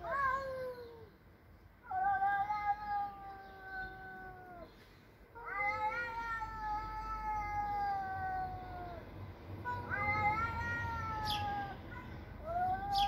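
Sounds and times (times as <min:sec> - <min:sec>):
cat yowling: 0:00.0 - 0:01.1, 0:01.8 - 0:04.7, 0:05.4 - 0:09.0, 0:09.7 - 0:13.0.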